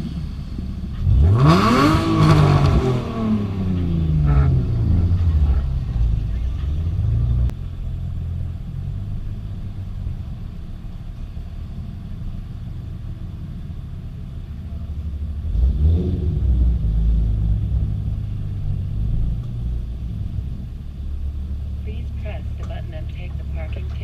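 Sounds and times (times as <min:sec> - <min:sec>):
car engine rumbling: 0:00.0 - 0:24.0.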